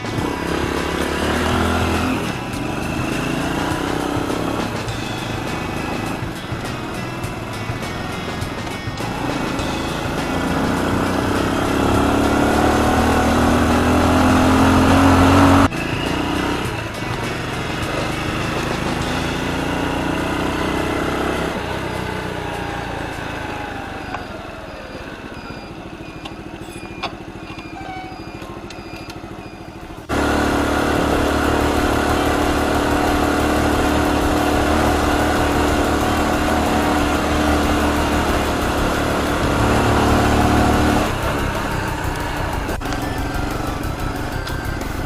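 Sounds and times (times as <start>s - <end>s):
motorbike engine running: 0.0s - 45.0s.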